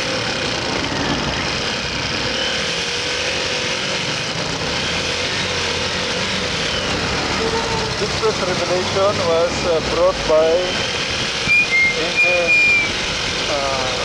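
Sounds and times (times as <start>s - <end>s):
motorcycle engine: 0.0s - 14.0s
wind and road noise: 0.0s - 14.0s.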